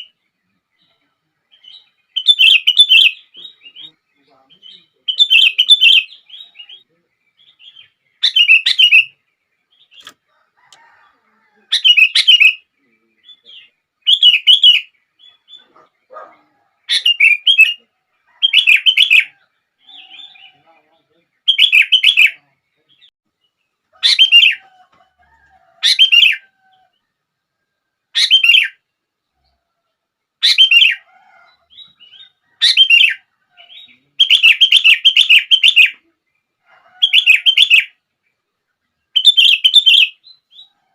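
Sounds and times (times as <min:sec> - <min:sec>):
bulbul singing: 0:00.0 - 0:10.3, 0:11.7 - 0:25.1, 0:25.8 - 0:27.0, 0:28.2 - 0:28.9, 0:30.4 - 0:36.4, 0:37.0 - 0:38.0, 0:39.0 - 0:40.8
soft bird calls: 0:00.0 - 0:40.9.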